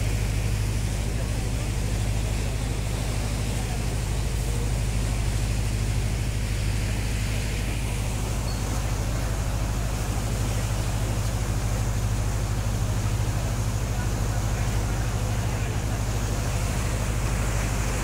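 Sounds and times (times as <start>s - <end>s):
ferry diesel engine drone: 0.0s - 18.0s
water rushing along hull: 0.0s - 18.0s.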